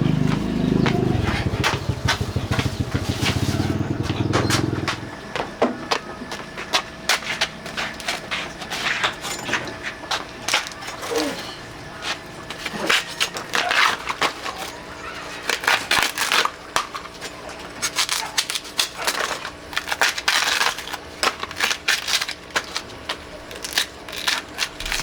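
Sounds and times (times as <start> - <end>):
crunching and clicking: 0.1 - 25.0.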